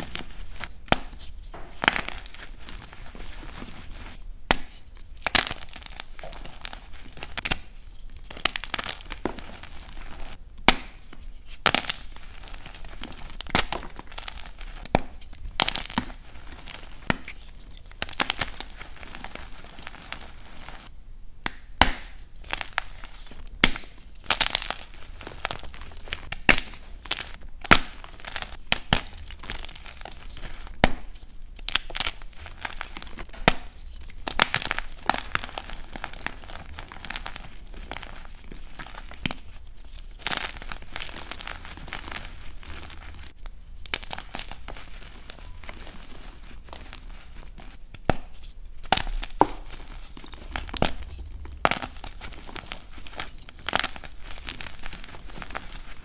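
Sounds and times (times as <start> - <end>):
chalk pieces crumbling: 0.0 - 20.9, 22.4 - 56.0
chalk blocks cracking and crunching: 0.0 - 56.0.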